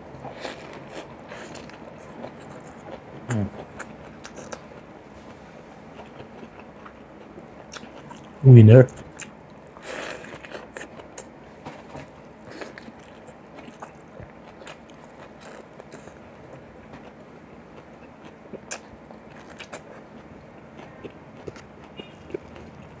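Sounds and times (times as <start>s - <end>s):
person chewing: 0.2s - 4.9s, 5.9s - 11.4s, 12.4s - 23.0s.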